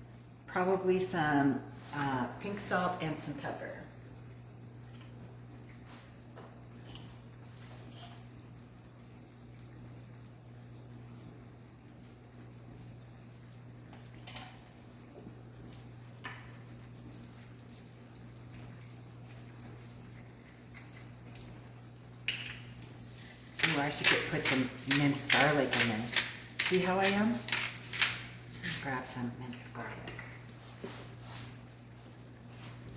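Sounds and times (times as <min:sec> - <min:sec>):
food sizzling in a pan: 0:00.0 - 0:32.9.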